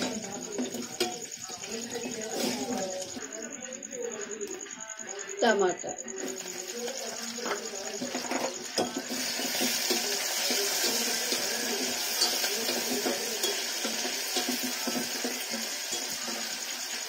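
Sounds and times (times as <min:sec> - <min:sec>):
vegetables sizzling in oil: 0:00.0 - 0:03.2, 0:06.2 - 0:17.0.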